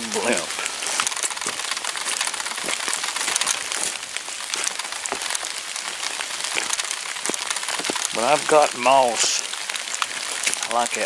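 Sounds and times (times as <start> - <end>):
footsteps on wet leaves: 0.0 - 11.0
rain on leaves: 0.0 - 11.0.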